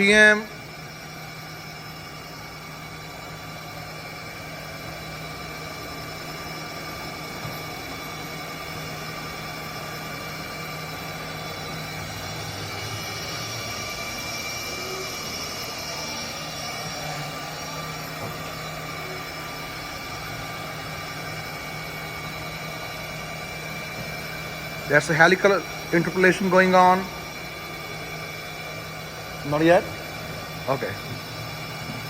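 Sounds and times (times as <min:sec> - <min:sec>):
machine spindle whine: 0:00.0 - 0:32.0.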